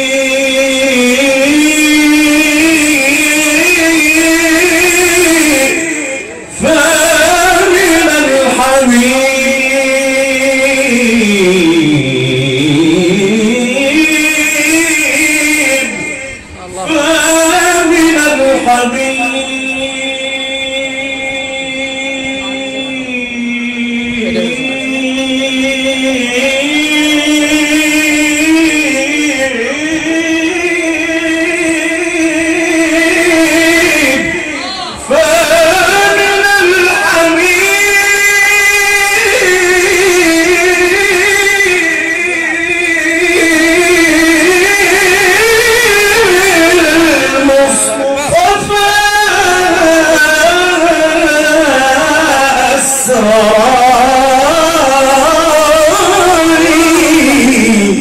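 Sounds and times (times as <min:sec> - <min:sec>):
man reciting melodically into microphone: 0:00.0 - 0:58.0.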